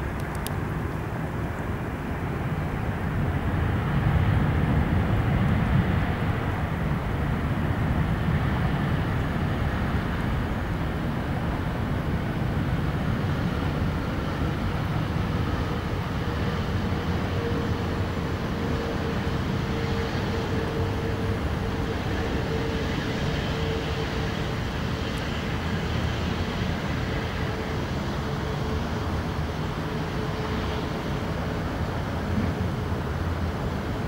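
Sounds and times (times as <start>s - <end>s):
jet engines rumbling and whining: 0.0s - 34.0s.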